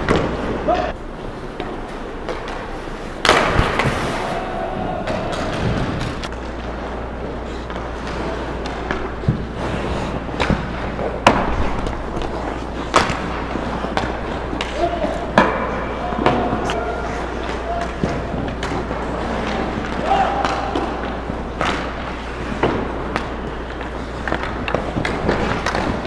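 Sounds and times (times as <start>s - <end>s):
hockey sticks and puck knocking: 0.0s - 0.9s, 4.8s - 26.0s
skates scraping ice: 0.0s - 26.0s.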